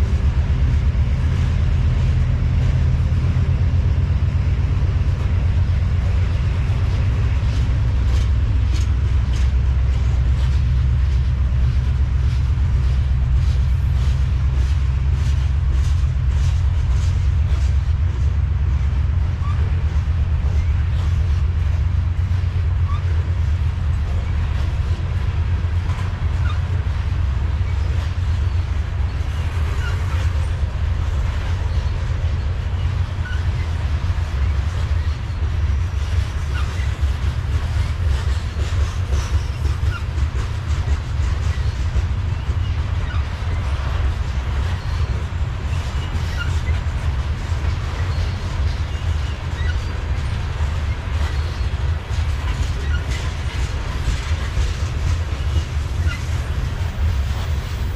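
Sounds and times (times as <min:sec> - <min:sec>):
freight train rumbling past: 0:00.0 - 0:57.9.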